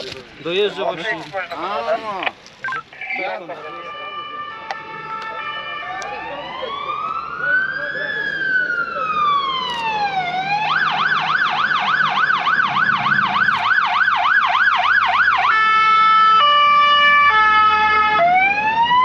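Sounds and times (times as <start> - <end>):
fire engine siren: 3.1 - 19.0.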